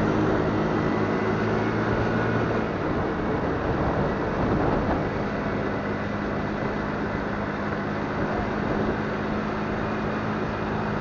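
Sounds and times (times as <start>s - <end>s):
motorcycle engine running: 0.0s - 11.0s
road and air noise: 0.0s - 11.0s.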